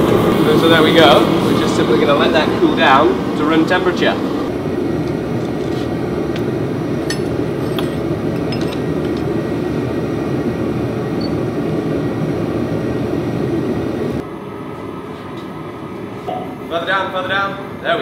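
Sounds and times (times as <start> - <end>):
forge burner rushing: 0.0 - 15.1.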